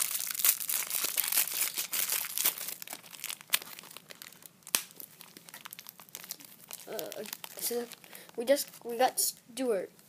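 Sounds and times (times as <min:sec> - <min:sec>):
plastic packaging crinkling and tearing: 0:00.0 - 0:08.9.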